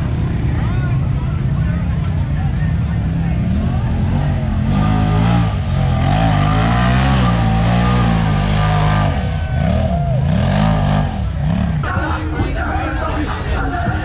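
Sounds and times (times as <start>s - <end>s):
off-road vehicle engine revving: 0.0s - 13.1s.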